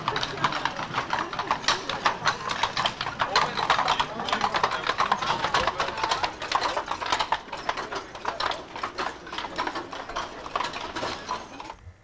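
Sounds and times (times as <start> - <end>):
horse hooves clip-clopping: 0.0 - 11.8
wagon wheels clattering on cobblestones: 0.0 - 11.8.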